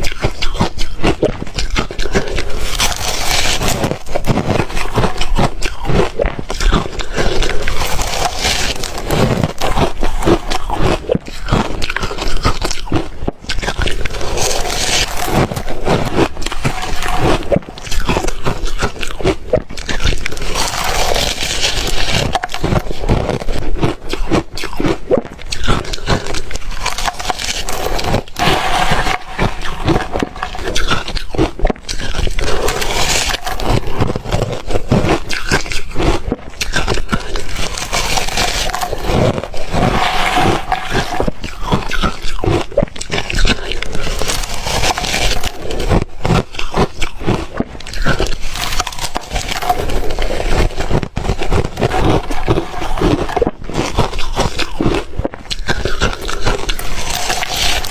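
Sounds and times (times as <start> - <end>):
person crunching ice: 0.0 - 57.9.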